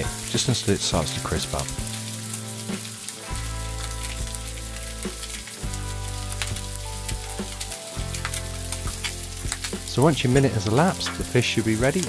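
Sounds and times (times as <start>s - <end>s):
fish sizzling in butter: 0.0s - 12.0s
spitting crackles: 0.0s - 12.0s.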